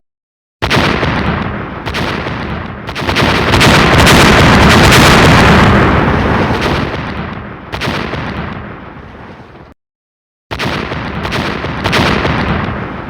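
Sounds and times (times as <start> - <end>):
fireworks banging and crackling: 0.6 - 9.7, 10.5 - 13.0.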